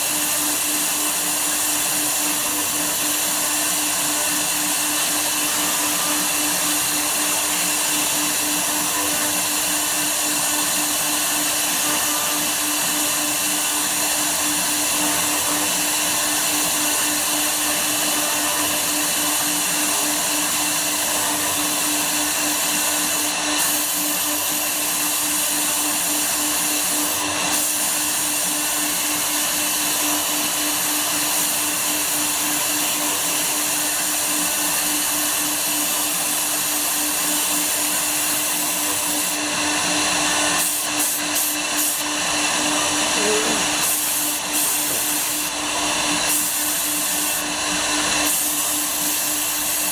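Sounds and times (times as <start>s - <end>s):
cnc router cutting wood: 0.0s - 49.9s.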